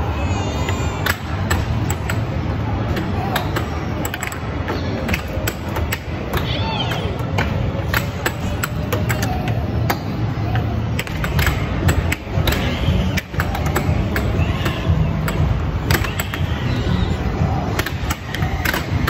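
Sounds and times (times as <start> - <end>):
air hockey puck clacking: 0.6 - 19.0.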